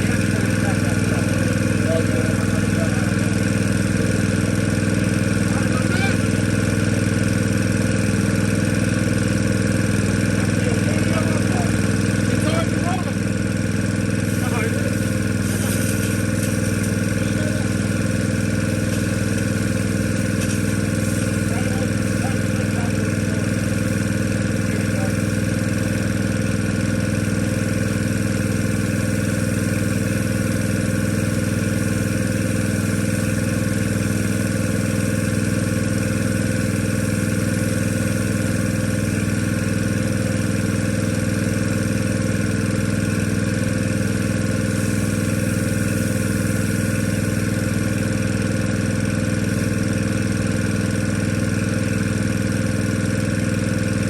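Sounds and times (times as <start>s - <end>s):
machinery engine droning: 0.0s - 54.0s.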